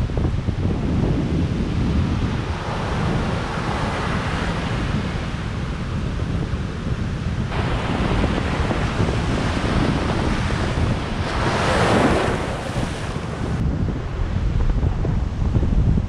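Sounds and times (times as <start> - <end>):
wind buffeting microphone: 0.0 - 16.0
ocean surf breaking: 0.8 - 15.4.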